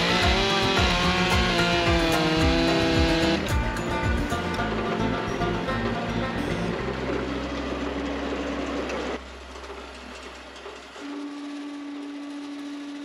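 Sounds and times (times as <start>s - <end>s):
sawmill mechanical din: 0.0s - 13.0s.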